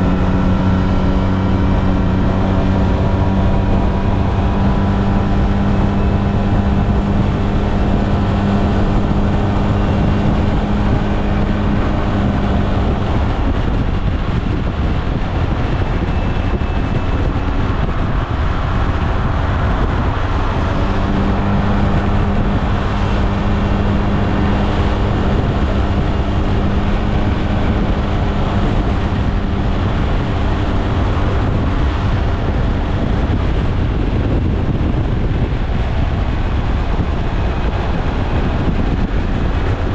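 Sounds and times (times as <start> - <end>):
scooter engine running: 0.0 - 39.9
wind rushing over microphone: 0.0 - 39.9.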